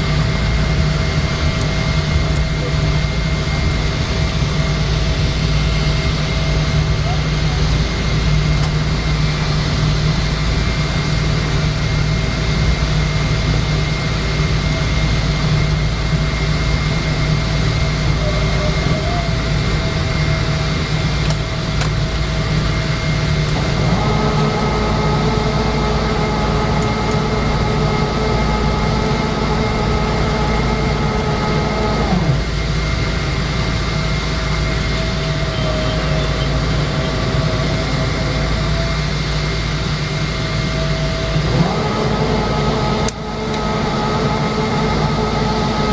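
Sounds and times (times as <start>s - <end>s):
airliner low rumble: 0.0s - 45.9s.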